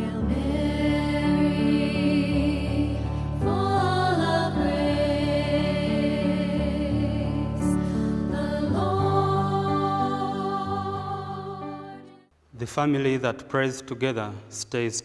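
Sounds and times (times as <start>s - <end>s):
singing voices: 0.0s - 12.2s.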